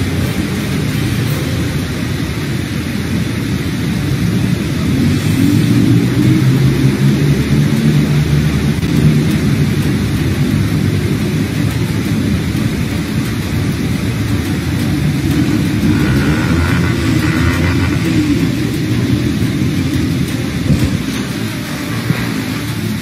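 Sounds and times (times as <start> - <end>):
cars driving on wet road: 0.0 - 23.0
heavy rain hissing: 0.0 - 23.0
low rumble: 0.0 - 23.0.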